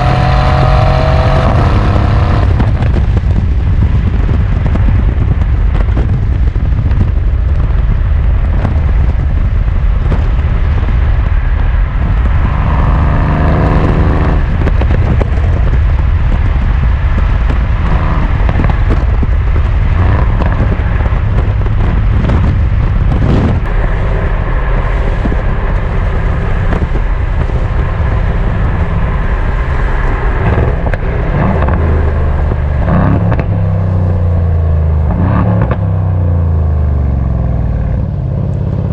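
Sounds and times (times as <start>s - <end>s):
car engine driving: 0.0s - 38.9s
exhaust pops and crackles: 0.0s - 38.9s.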